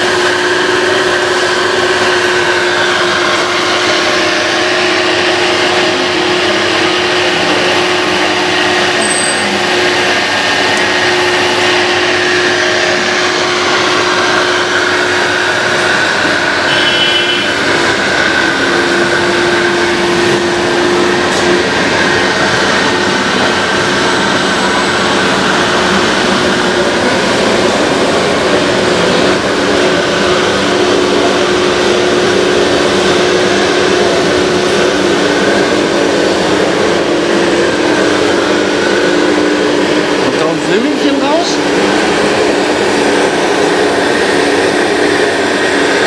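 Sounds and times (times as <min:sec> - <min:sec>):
electric motor and gear whine: 0:00.0 - 0:46.0.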